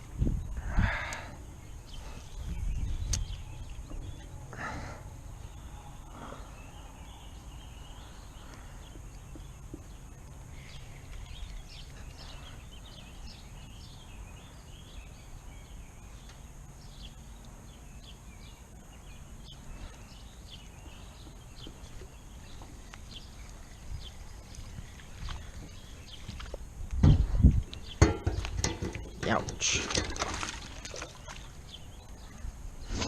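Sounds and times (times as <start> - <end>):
steady low rumble: 0.0 - 29.6
birds chirping and singing: 0.0 - 33.0.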